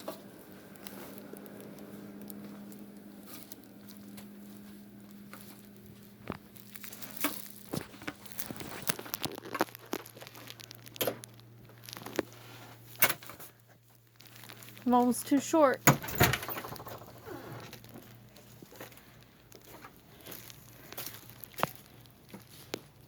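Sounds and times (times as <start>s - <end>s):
plastic bag crinkling: 0.0s - 15.8s, 16.4s - 23.0s
sharp crackles and knocks: 0.0s - 23.0s.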